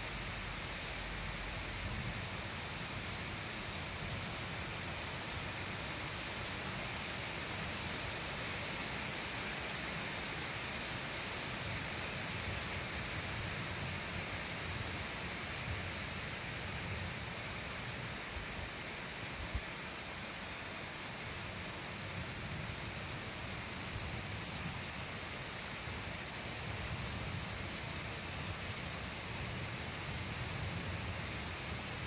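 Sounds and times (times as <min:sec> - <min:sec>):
steady rain hissing: 0:00.0 - 0:32.0.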